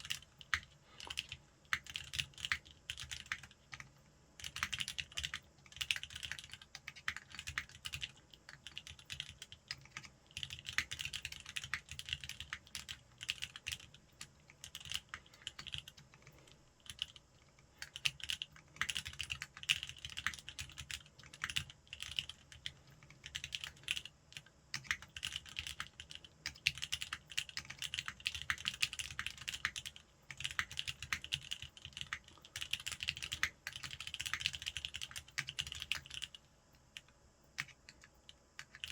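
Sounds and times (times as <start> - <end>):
mechanical keyboard typing: 0.0 - 17.2, 17.8 - 38.9.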